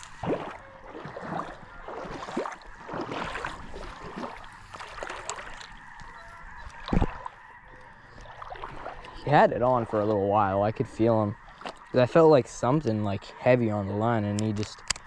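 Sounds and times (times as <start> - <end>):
geese honking: 0.4 - 2.9, 4.0 - 14.6.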